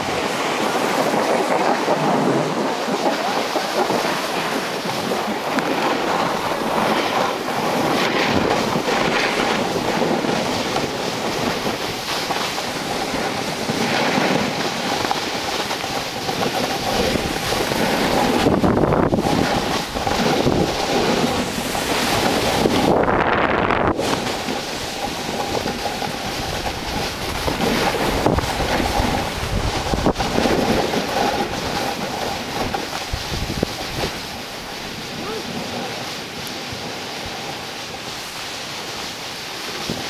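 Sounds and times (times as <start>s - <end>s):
snowboard scraping over snow: 0.0s - 40.0s
wind buffeting microphone: 0.0s - 40.0s.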